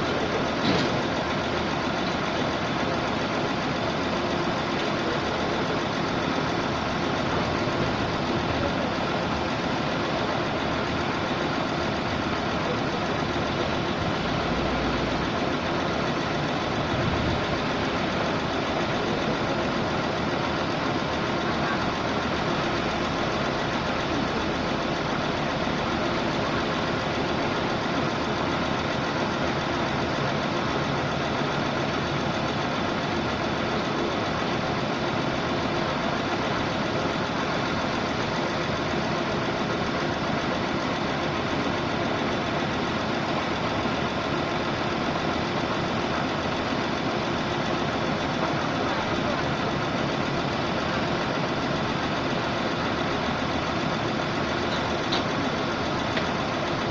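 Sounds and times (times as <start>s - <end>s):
air compressor engine running: 0.0s - 56.9s.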